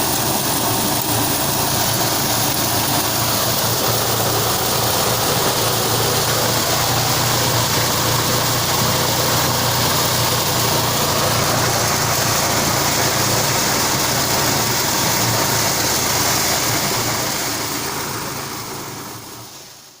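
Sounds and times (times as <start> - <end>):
machine noise rushing: 0.0 - 19.4
engine hum: 0.0 - 20.0.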